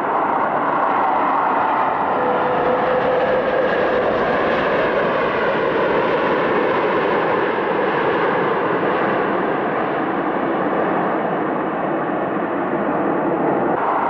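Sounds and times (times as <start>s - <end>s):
jet engines roaring in cabin: 0.0s - 14.0s.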